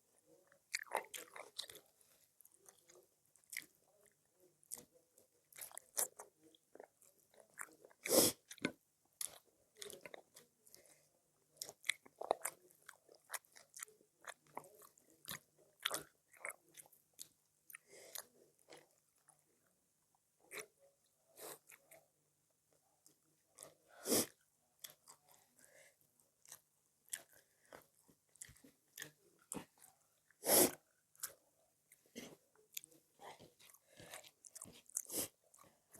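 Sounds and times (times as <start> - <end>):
person chewing and crunching: 0.4 - 11.0, 11.6 - 19.4, 23.0 - 25.8, 26.4 - 35.9.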